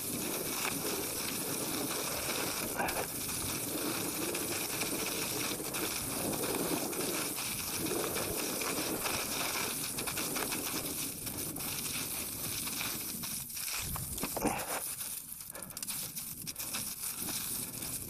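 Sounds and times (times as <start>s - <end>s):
bike clicks and rattles: 0.0s - 18.0s
bike tyres rolling over dirt: 0.0s - 18.0s.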